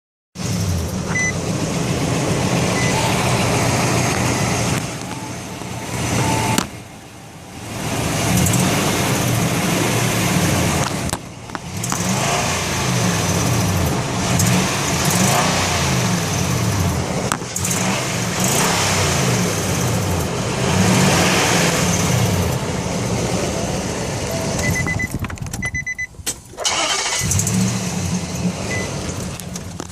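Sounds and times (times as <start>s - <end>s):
truck engine revving: 0.4s - 25.4s, 26.5s - 29.9s
exhaust rattle: 0.4s - 29.9s.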